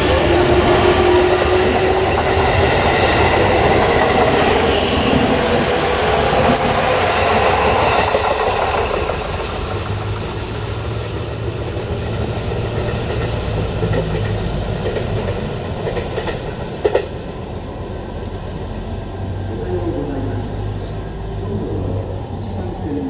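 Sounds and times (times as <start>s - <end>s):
electric train rolling: 0.0s - 23.0s.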